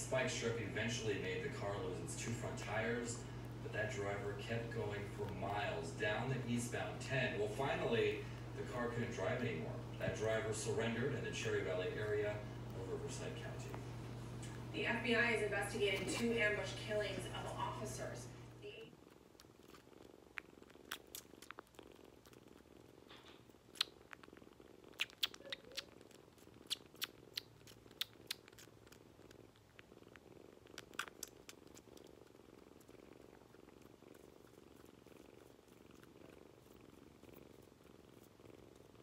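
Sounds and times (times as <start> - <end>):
kitten purring: 0.0 - 39.0.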